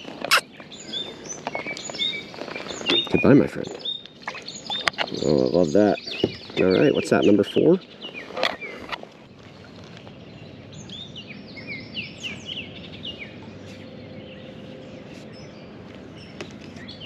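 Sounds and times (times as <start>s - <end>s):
bird chirping: 0.0s - 17.0s
outdoor background noise: 0.0s - 17.0s.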